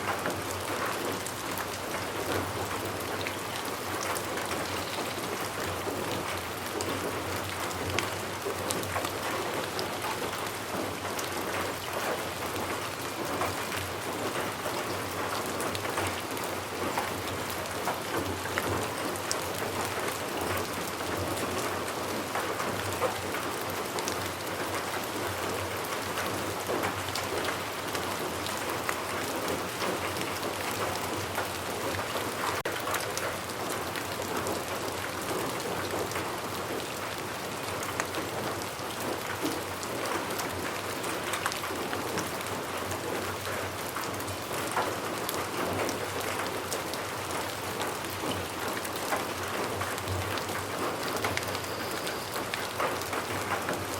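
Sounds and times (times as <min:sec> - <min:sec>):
steady rain pattering: 0:00.0 - 0:53.9.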